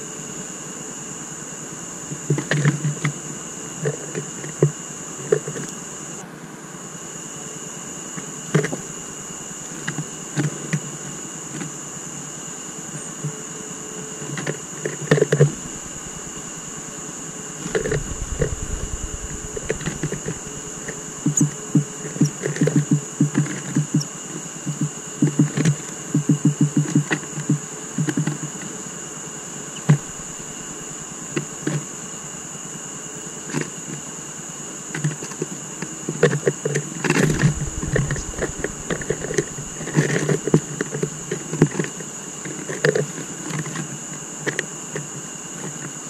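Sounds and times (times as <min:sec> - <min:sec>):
steady high-pitched whine: 0:00.0 - 0:46.0.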